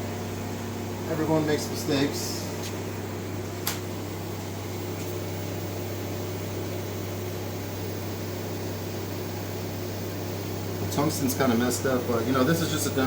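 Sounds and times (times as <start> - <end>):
cooling fan noise: 0.0 - 13.0
welding machine electrical hum: 0.0 - 13.0.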